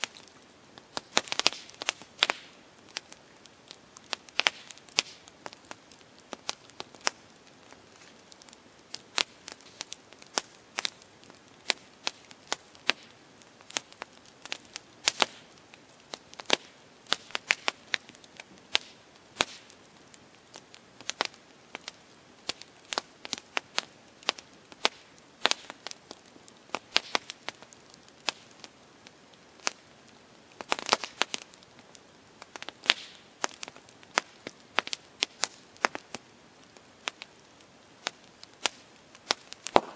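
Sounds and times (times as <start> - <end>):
campfire crackling and popping: 0.0 - 39.9
faint fire hiss: 0.0 - 39.9.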